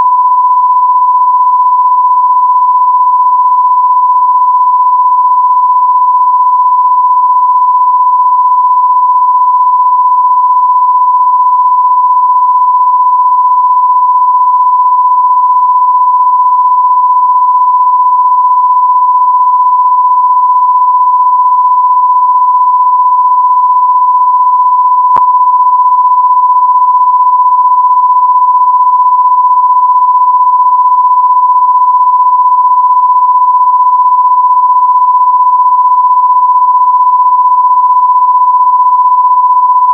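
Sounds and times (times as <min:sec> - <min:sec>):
pure sine tone: 0:00.0 - 0:39.9.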